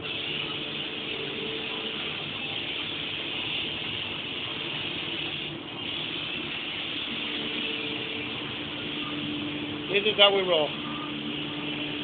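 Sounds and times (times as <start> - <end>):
spray gun hissing: 0.0 - 12.0.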